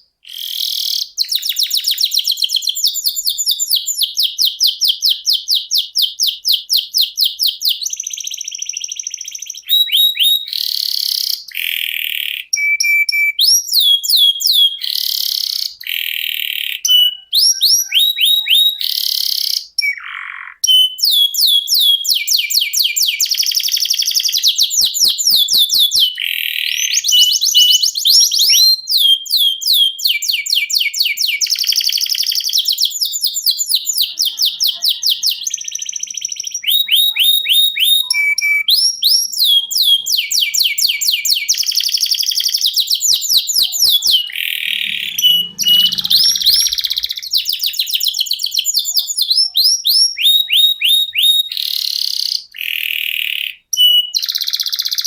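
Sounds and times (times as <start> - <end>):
canary singing trills: 0.2 - 55.0.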